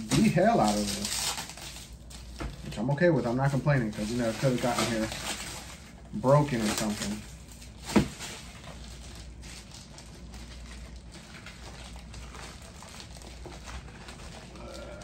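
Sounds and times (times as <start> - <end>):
packing material rustling: 0.0 - 15.0.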